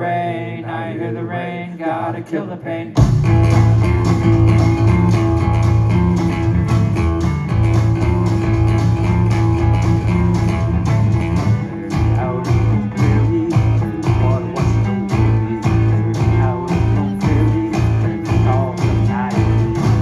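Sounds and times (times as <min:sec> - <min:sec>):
fast strummed guitar: 0:03.0 - 0:20.0
steady bass line: 0:03.0 - 0:20.0.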